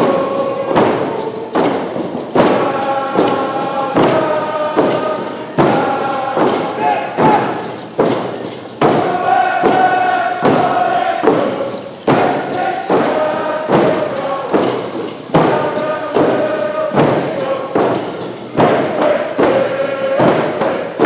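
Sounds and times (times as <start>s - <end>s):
group chanting in held notes: 0.0s - 8.2s, 8.8s - 21.0s
frame drums beating: 0.0s - 21.0s.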